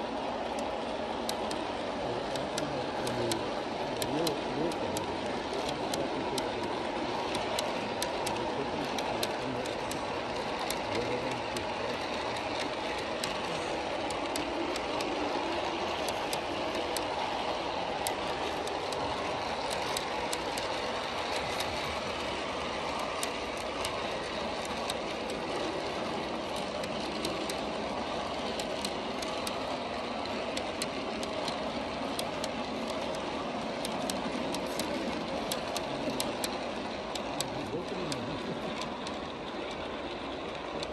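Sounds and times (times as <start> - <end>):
model train wheels rumbling on rail: 0.0 - 40.9
sharp rail clicks: 0.0 - 40.9.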